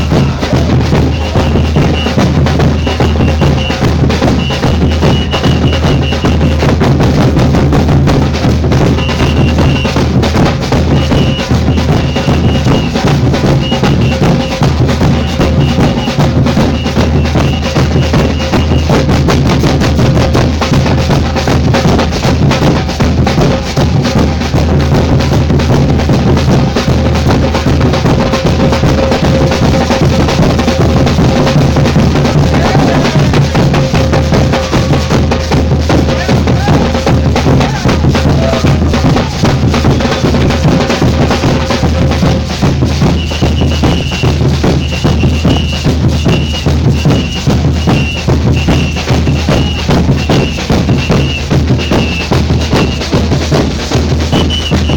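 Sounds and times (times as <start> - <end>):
deep bass drums: 0.0 - 54.9
samba drums: 0.0 - 54.9
snare drum strokes: 0.0 - 54.9.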